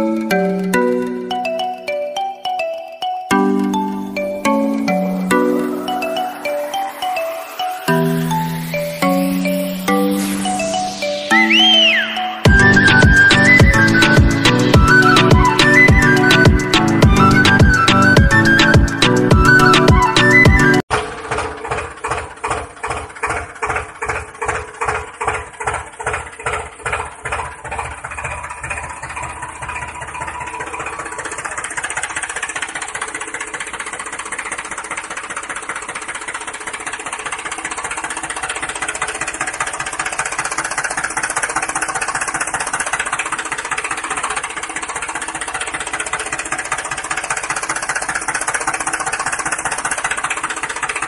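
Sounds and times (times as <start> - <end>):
tractor engine chugging: 0.0 - 51.0.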